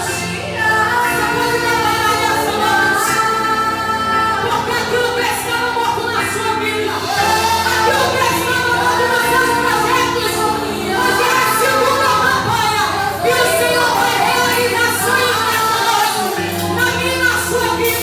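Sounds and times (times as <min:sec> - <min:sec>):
sustained musical accompaniment: 0:00.0 - 0:18.0
women singing praise song: 0:00.0 - 0:18.0.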